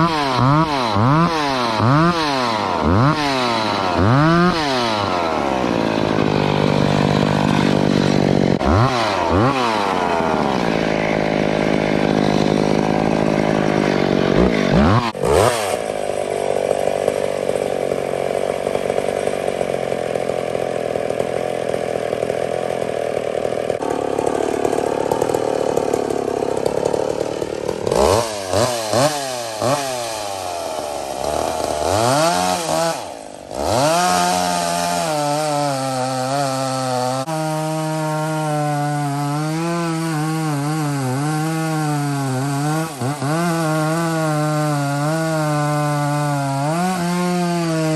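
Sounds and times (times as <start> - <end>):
chainsaw revving and cutting log: 0.0 - 47.9.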